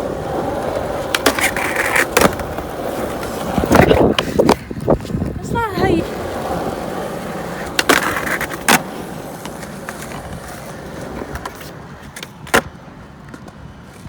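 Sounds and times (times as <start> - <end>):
skateboard clacks: 0.0 - 14.0
skateboard wheels rolling: 0.0 - 14.0.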